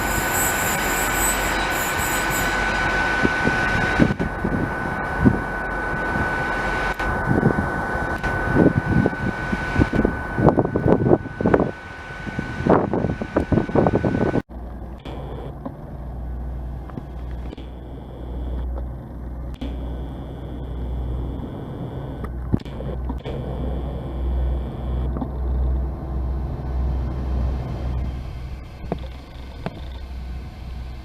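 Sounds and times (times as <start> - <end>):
loud noisy burst: 0.0 - 14.4, 19.6 - 31.0
faint high whine: 0.0 - 31.0
train low rumble: 0.0 - 31.0.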